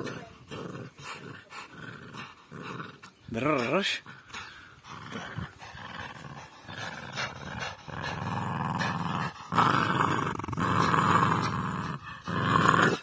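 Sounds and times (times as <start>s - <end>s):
dogs growling in play: 0.0s - 13.0s.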